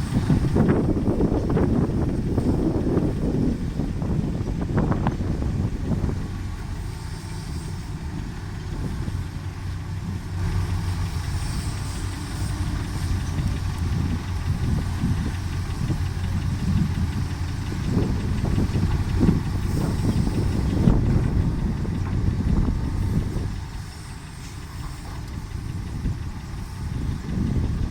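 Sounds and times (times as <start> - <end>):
diesel engine droning: 0.0 - 27.9.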